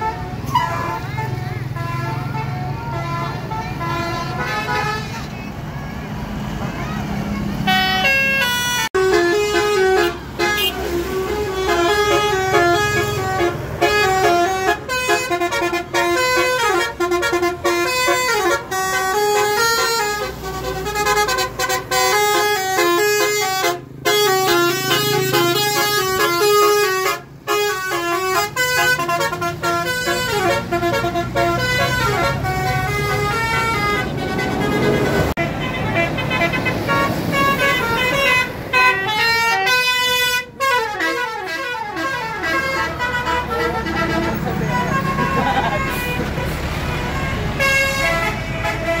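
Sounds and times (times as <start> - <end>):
bus engine running: 0.0 - 49.0
multi-tone musical bus horn: 0.0 - 49.0.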